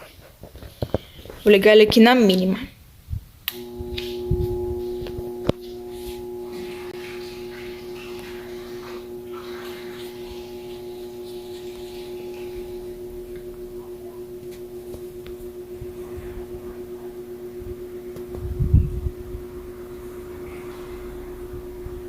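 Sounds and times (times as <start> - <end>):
fan motor humming: 3.4 - 22.0.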